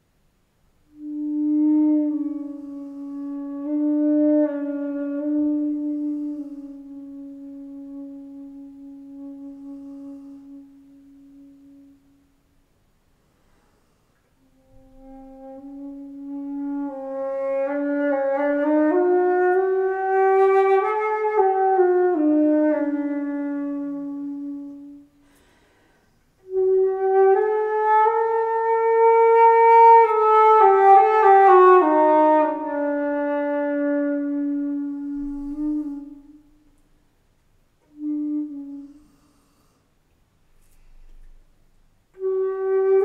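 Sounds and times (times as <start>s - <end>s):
solo flute playing low notes: 0.0s - 43.0s.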